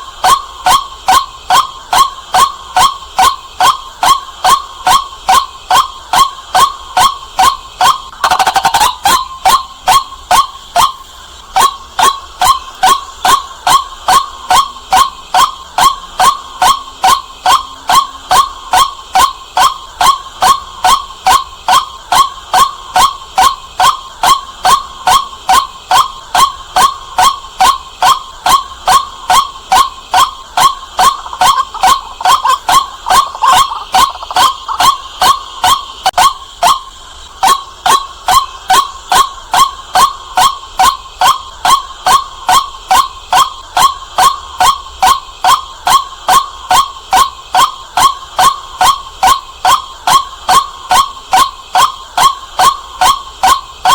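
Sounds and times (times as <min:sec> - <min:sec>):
waterhen calling sharp kwak: 0:00.0 - 0:53.9.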